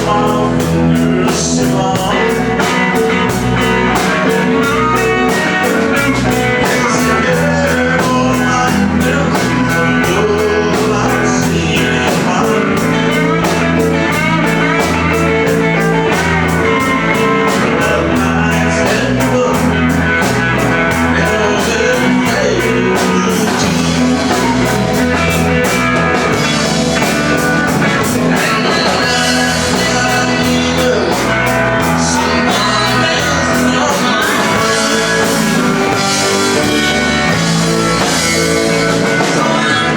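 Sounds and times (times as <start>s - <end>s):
bass: 0.0s - 39.9s
drum kit steady beat: 0.0s - 39.9s
electric guitar: 0.0s - 39.9s.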